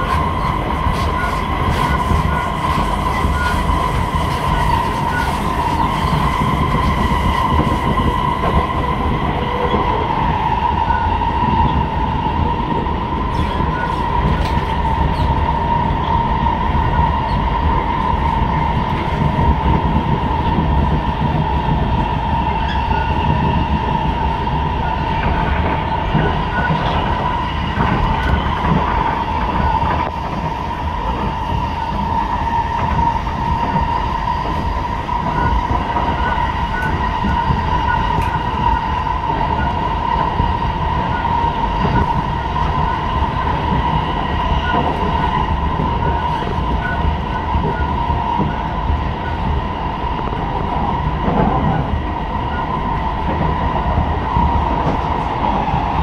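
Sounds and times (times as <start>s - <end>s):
continuous train whine: 0.0s - 56.0s
train wheels rumbling on track: 0.0s - 56.0s.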